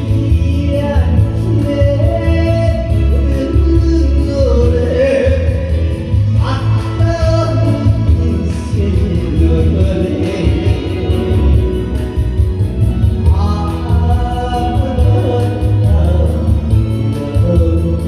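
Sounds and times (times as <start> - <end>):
backing music with steady beat: 0.0 - 18.0
person singing: 0.0 - 18.0.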